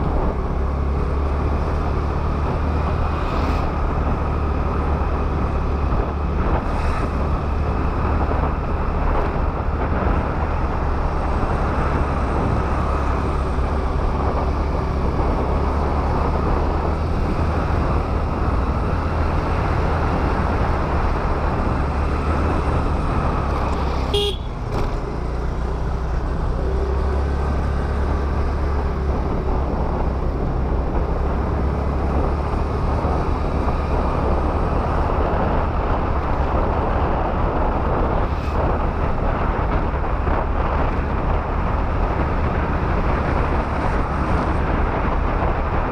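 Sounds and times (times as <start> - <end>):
scooter road noise: 0.0 - 45.9.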